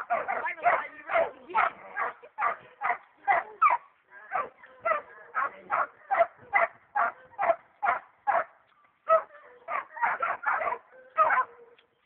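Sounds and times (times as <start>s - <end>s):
dogs barking: 0.0s - 11.8s.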